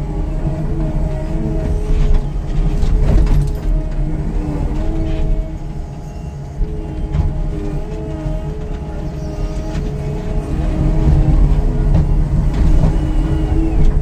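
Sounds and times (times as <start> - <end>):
demolition machine engine rumble: 0.0 - 14.0.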